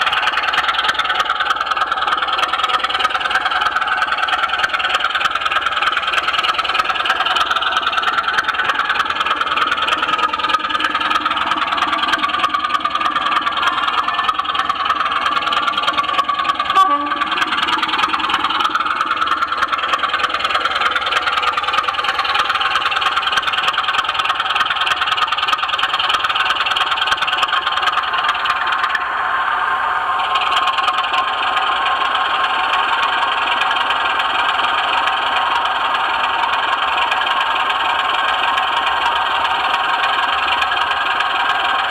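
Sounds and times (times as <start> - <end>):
wheels clicking on rails: 0.0 - 41.9.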